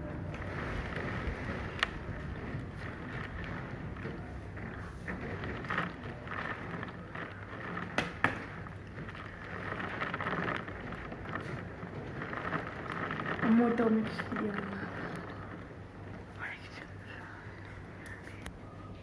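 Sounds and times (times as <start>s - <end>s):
rain and hail falling: 0.0s - 17.0s.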